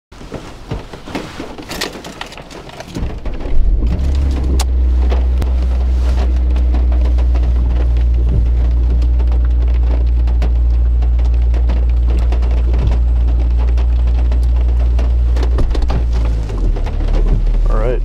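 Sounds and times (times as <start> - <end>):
clicks and handling rustle: 0.2 - 18.0
car engine starting and idling: 1.2 - 18.0.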